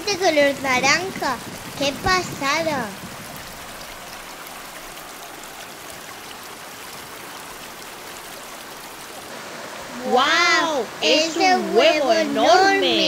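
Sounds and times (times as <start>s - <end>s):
stream flowing over pebbles: 0.0s - 13.0s.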